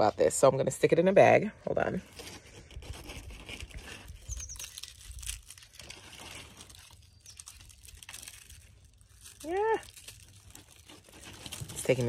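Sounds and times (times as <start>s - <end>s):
bag crinkling and rustling: 2.0s - 12.0s.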